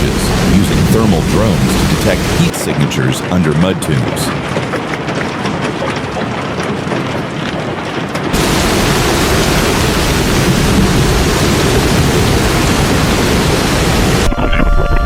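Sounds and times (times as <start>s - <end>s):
rushing water: 0.0s - 14.4s.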